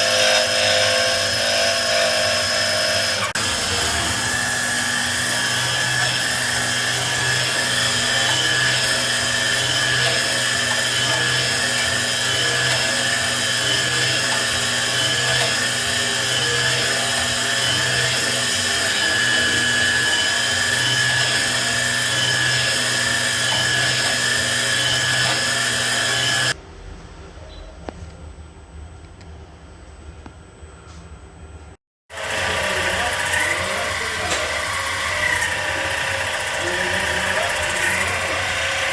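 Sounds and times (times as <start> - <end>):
machine spindle high whine: 0.0 - 26.6, 32.1 - 38.9.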